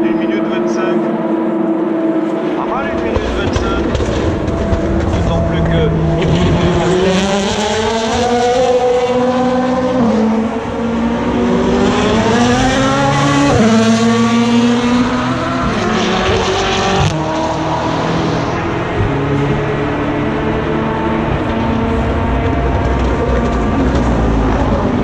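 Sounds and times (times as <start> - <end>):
race car engines accelerating: 0.0 - 25.0.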